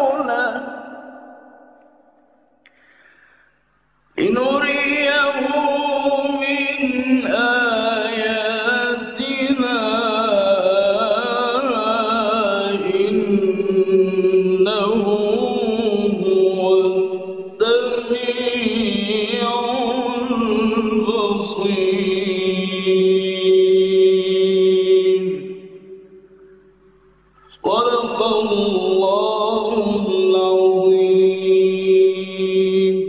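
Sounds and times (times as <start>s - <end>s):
man chanting melodically: 4.2s - 25.8s, 27.4s - 33.0s.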